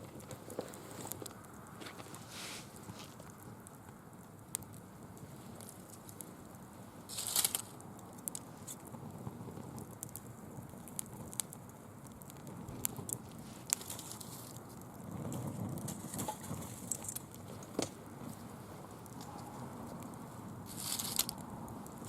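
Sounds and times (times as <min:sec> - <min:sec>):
bonfire crackling and popping: 0:00.0 - 0:22.0
burning leaves crinkling: 0:00.0 - 0:22.0.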